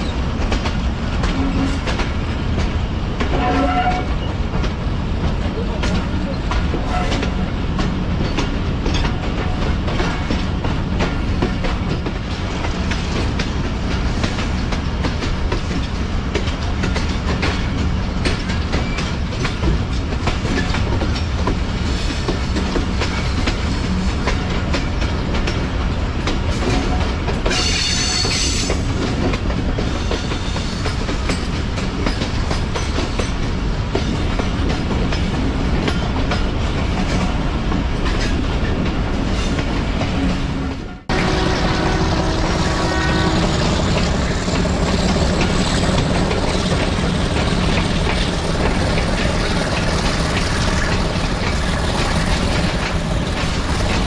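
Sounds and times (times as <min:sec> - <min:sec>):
train rumble: 0:00.0 - 0:54.0
wheels clicking over rail joints: 0:00.0 - 0:54.0.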